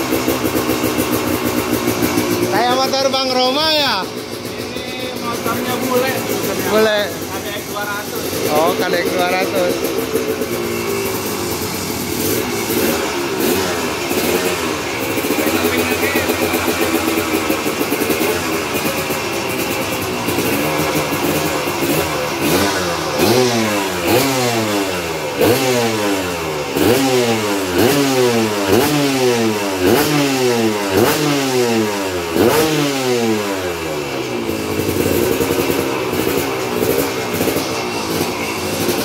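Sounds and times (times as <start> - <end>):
two-stroke engine idling: 0.0 - 39.0
two-stroke engine revving: 0.0 - 39.0.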